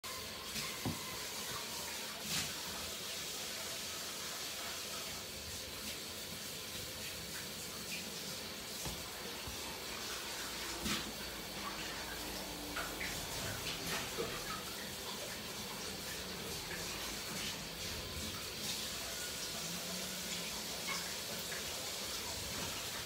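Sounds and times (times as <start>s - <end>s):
tap water running into sink: 0.1s - 23.0s.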